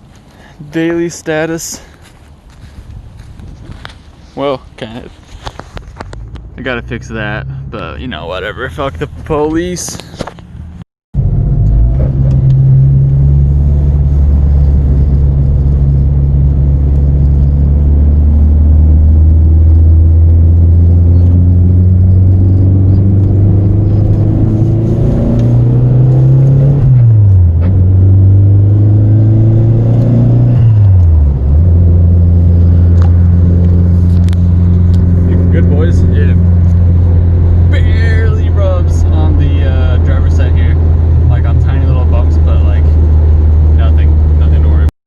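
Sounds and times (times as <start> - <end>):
car engine revving: 6.3 - 44.9.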